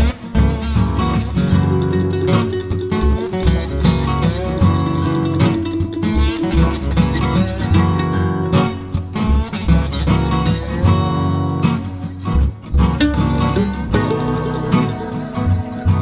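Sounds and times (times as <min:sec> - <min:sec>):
acoustic guitar music: 0:00.0 - 0:16.0
bass line: 0:00.0 - 0:16.0.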